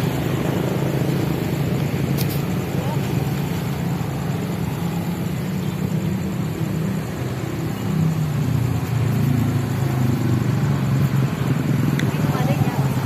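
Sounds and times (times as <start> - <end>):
motorbike engines passing: 0.0 - 13.0.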